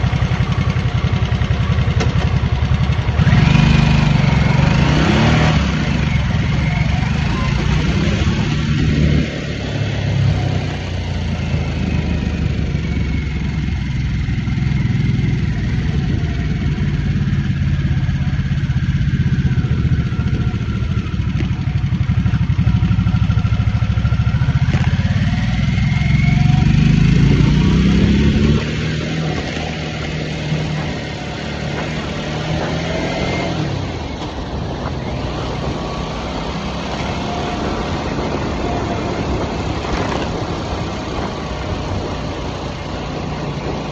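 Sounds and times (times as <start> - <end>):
motorcycle engine cruising: 0.0 - 43.9.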